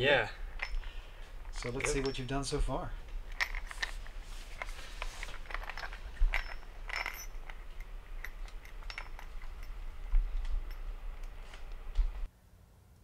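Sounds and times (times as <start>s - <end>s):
small metal parts clinking: 0.4s - 12.3s.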